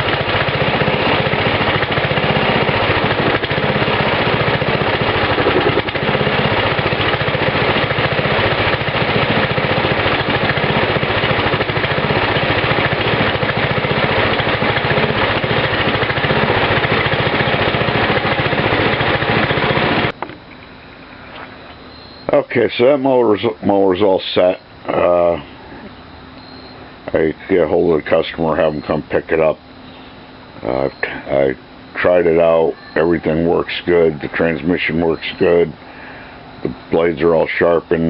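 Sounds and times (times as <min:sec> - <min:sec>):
lawn mower engine running: 0:00.0 - 0:38.0.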